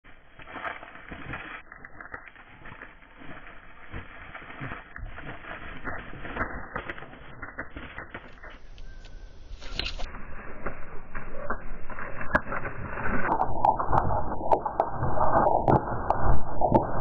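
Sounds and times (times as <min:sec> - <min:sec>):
beaks pecking at seed: 0:00.3 - 0:15.8
wings slapping: 0:00.4 - 0:15.9.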